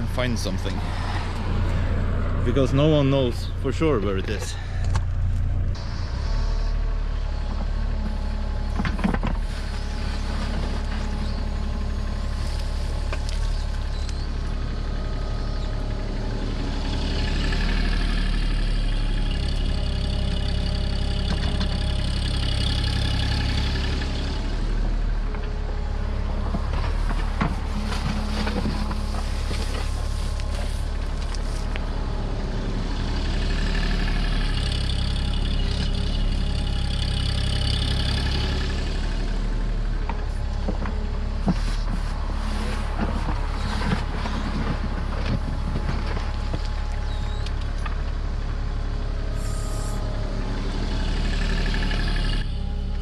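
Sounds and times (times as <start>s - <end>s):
diesel engine running: 0.0s - 53.0s
hydraulic whine: 4.4s - 53.0s.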